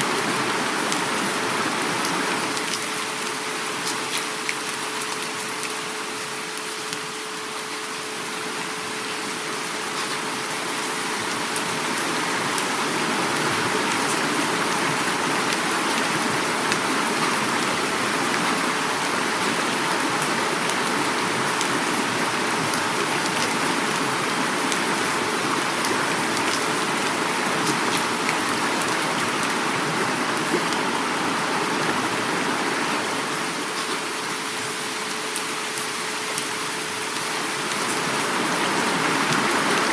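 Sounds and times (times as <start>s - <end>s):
heavy rain falling: 0.0s - 39.9s
rushing river water: 0.0s - 39.9s.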